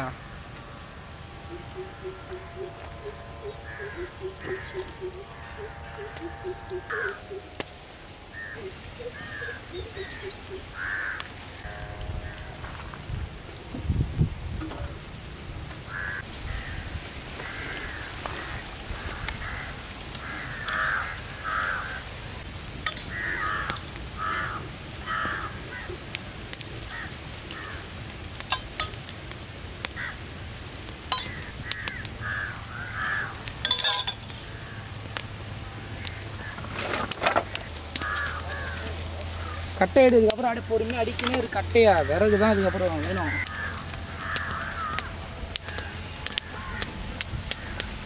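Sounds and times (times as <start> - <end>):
crows cawing: 1.4 - 13.0, 15.8 - 28.7, 29.8 - 30.4, 31.1 - 35.3, 35.9 - 48.0
wood fire cracking and popping: 2.7 - 48.0.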